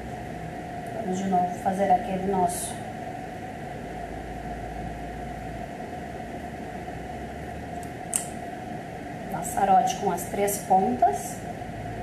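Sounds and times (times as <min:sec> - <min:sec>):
faint constant hum: 0:00.0 - 0:12.0
steady background hiss: 0:00.0 - 0:12.0.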